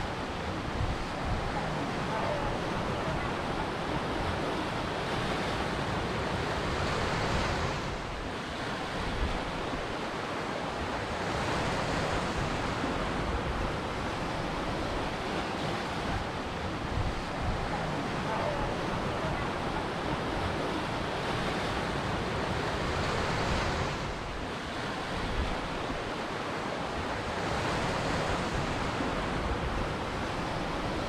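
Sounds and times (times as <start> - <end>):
ocean waves breaking: 0.0 - 31.0.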